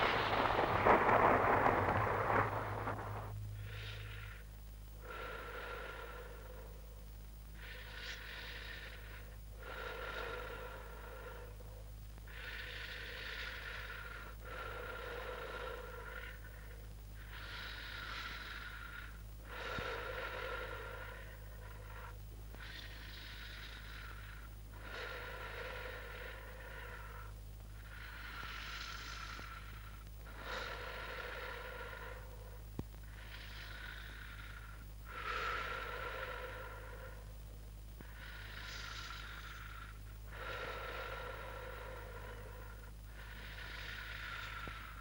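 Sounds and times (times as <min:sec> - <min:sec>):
heavy hoarse breathing: 0:00.0 - 0:07.0, 0:07.6 - 0:45.0
low electrical hum: 0:00.0 - 0:45.0.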